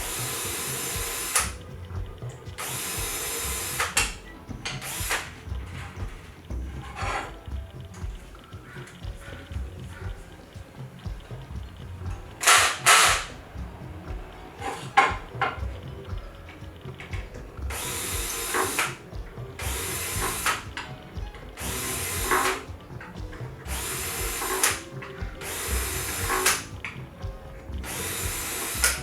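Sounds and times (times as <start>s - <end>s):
power drill bursts: 0.0s - 29.0s.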